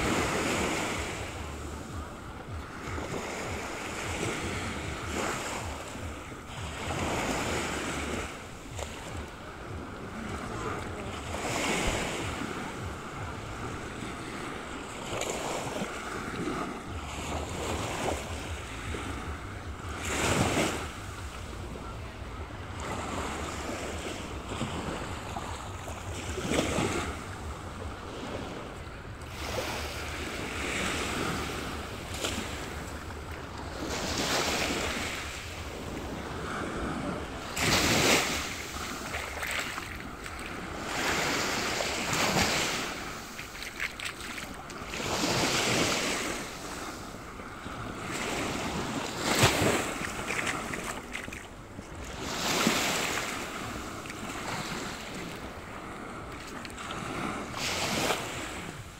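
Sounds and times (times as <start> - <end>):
small waves breaking on beach: 0.0 - 58.9
wind rumbling on microphone: 0.0 - 58.9.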